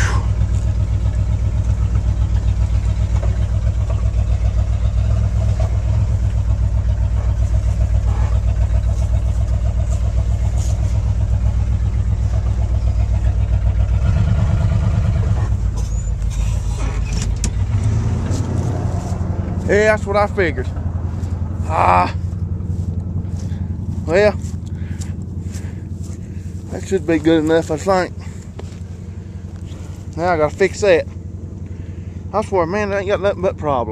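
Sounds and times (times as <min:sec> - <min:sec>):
truck engine running under load: 0:00.0 - 0:33.9.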